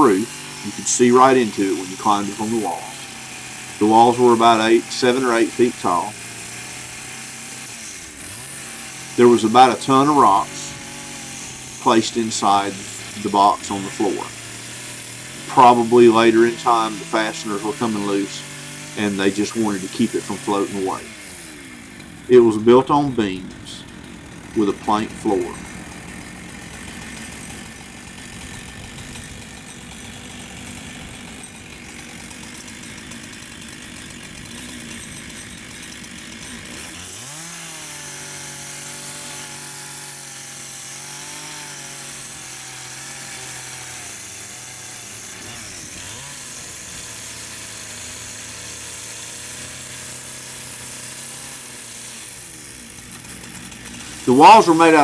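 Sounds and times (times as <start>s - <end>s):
chainsaw running and revving: 0.0s - 55.0s.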